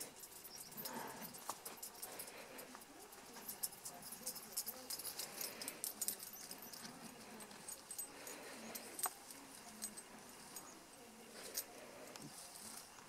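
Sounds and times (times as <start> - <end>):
thin clicks and jingles: 0.0 - 13.0.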